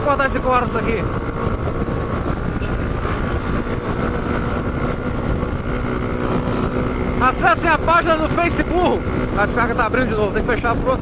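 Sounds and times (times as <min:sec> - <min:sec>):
motorcycle engine running: 0:00.0 - 0:11.0
road noise: 0:00.0 - 0:11.0
wind noise: 0:00.0 - 0:11.0.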